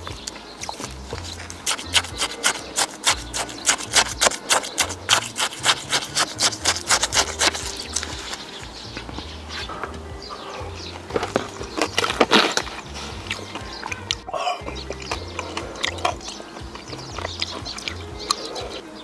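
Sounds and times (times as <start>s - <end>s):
background music with bass line: 0.0s - 19.0s
wet chewing and mouth sounds: 0.0s - 19.0s.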